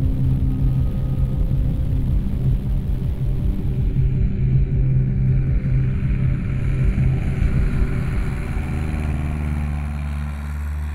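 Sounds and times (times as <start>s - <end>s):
propeller airplane engine droning: 0.0s - 10.9s.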